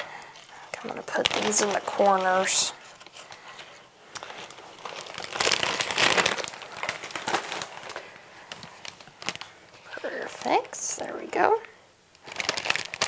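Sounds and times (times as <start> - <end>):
plastic sleeve crinkling: 0.0 - 11.6, 12.2 - 13.0.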